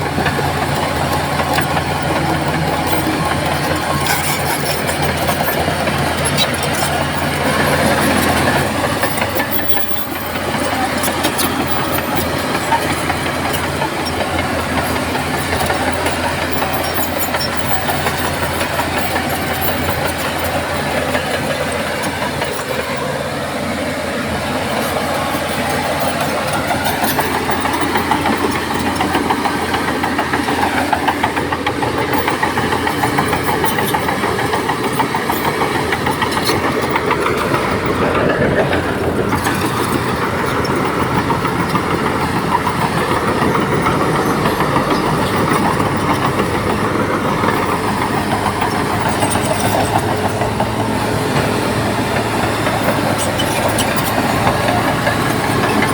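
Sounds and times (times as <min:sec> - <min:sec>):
bulldozer diesel engine running: 0:00.0 - 0:55.9
steel tracks clanking and rattling: 0:00.0 - 0:55.9.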